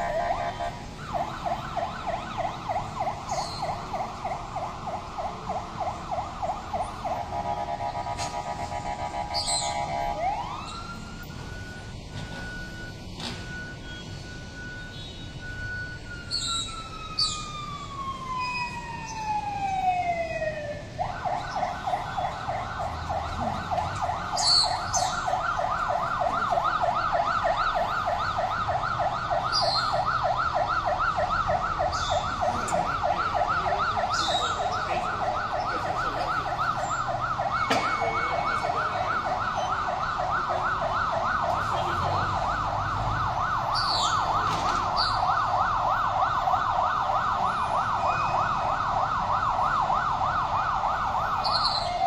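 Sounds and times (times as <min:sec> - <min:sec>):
electronic siren wailing and yelping: 0:00.0 - 0:11.8, 0:15.5 - 0:52.0.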